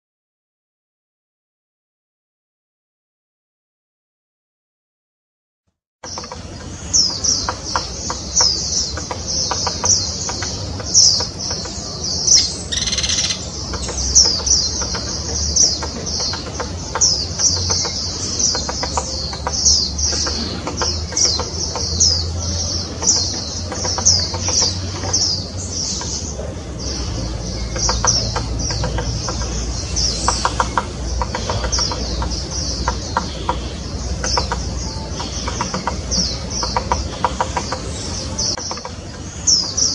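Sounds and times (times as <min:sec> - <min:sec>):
small birds chirping: 0:06.0 - 0:39.9.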